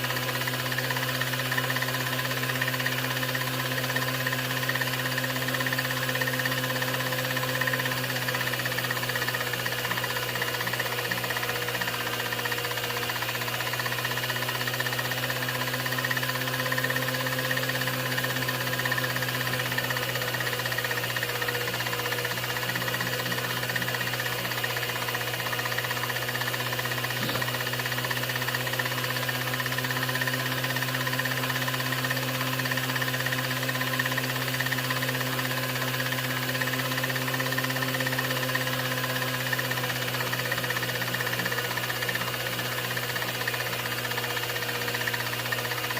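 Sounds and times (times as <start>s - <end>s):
film projector humming: 0.0s - 45.9s.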